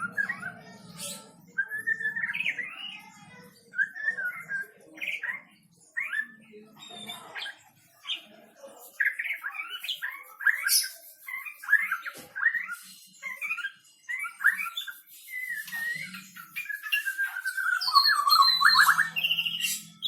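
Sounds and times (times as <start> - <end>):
bird singing whistled phrases: 0.0 - 7.6, 9.0 - 20.0.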